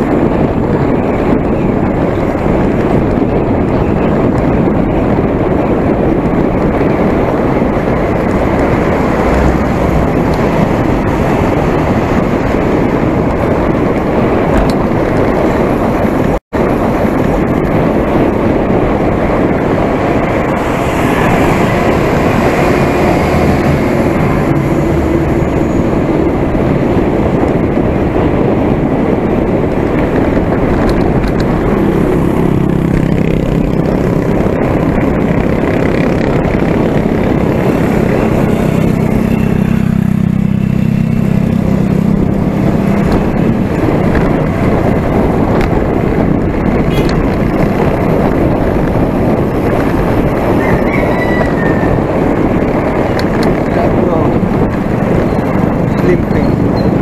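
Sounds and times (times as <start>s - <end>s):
vehicle engine hum: 0.0s - 57.0s
wind on microphone: 0.0s - 57.0s.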